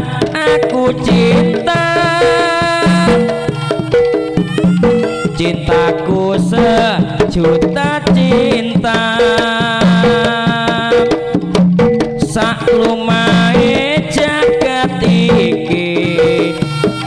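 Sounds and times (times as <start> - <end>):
hand drums: 0.0 - 17.0.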